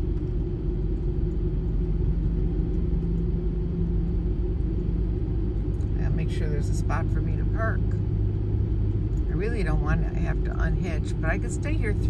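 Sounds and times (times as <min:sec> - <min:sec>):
engine drone: 0:00.0 - 0:12.0
road rumble: 0:00.0 - 0:12.0.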